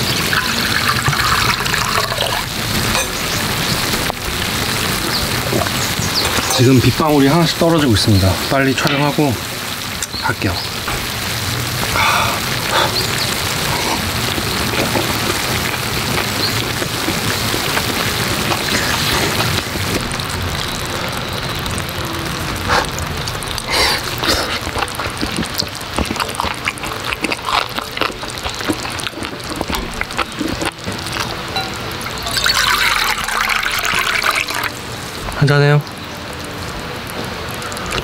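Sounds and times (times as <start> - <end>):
food sizzling on griddle: 0.0 - 38.0.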